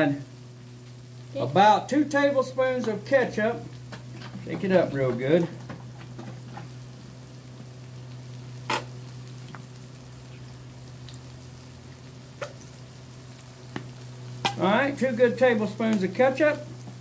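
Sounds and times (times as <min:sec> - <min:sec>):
meat sizzling in a wok: 0:00.0 - 0:17.0.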